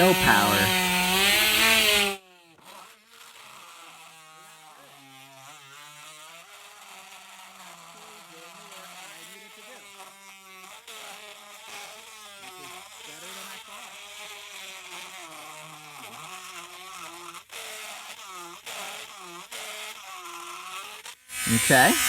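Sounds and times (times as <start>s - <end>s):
rotary tool motor whining: 0.2s - 22.0s.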